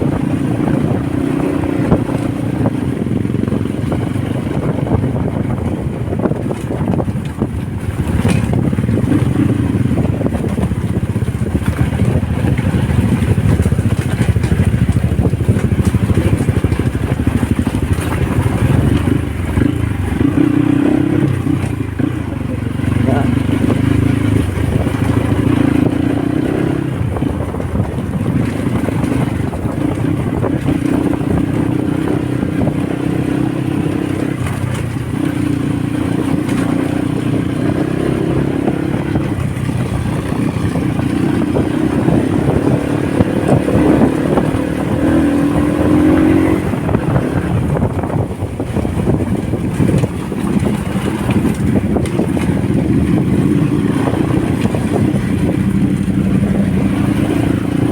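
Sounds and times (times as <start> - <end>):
motorcycle engine revving: 0.0 - 57.9
wind and road noise: 0.0 - 57.9.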